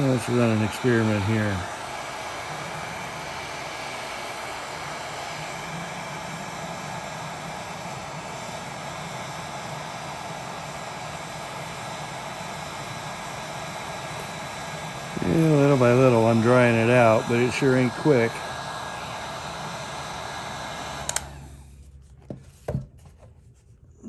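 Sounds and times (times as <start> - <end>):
hair dryer blowing: 0.0 - 21.8.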